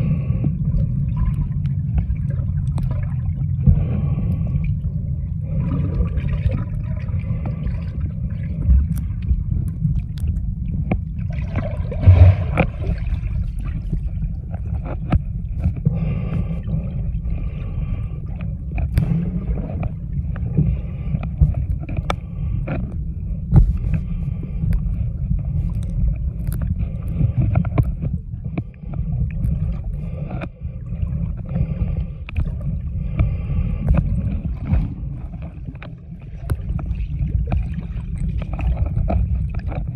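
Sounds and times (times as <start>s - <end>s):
underwater rumble of moving water: 0.0s - 39.9s.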